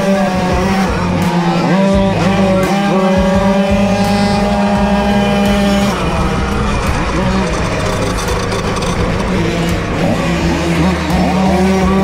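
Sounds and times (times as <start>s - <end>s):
two-stroke moped engines racing: 0.0s - 12.0s.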